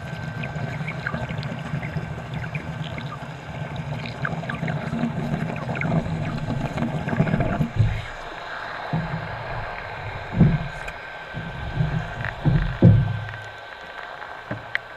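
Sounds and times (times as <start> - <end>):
air bubbles underwater: 0.0 - 14.9.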